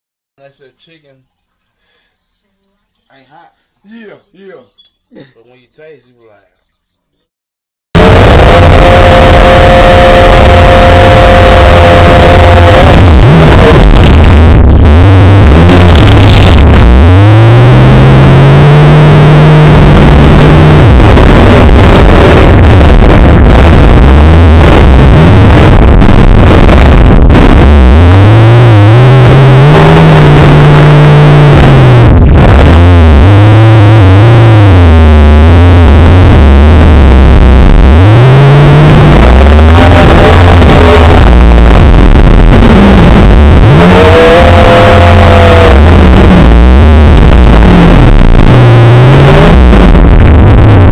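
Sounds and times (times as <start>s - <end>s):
distorted roar with sliding pitches: 8.0s - 50.9s.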